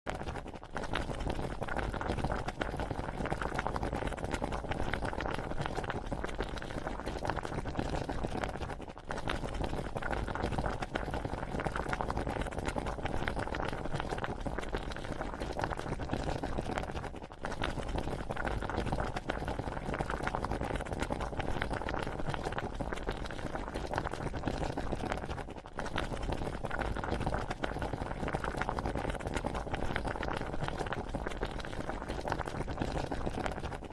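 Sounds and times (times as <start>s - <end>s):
liquid bubbling and crackling: 0.1s - 33.9s.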